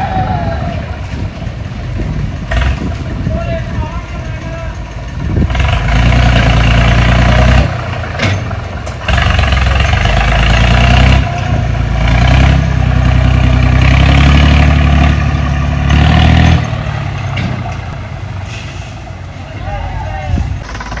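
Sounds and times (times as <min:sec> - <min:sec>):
tractor diesel engine revving: 0:00.2 - 0:19.7, 0:20.3 - 0:21.0.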